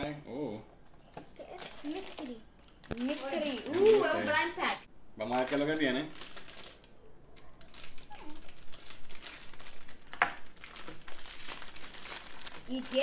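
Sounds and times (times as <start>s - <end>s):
foil wrapper crinkling: 1.4s - 6.9s, 7.6s - 13.0s
sharp foil crackle: 1.4s - 6.9s, 7.5s - 13.0s.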